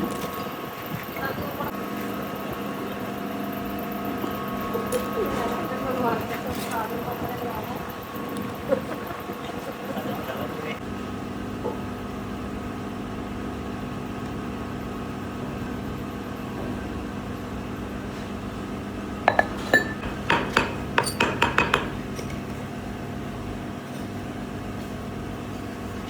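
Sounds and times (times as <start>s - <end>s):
workshop machine hum: 0.0s - 26.0s.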